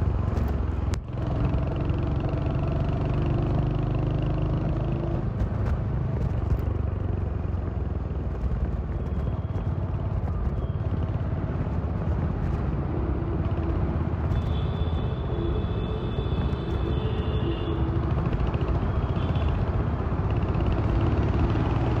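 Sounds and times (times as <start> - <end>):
city traffic: 0.0 - 22.0.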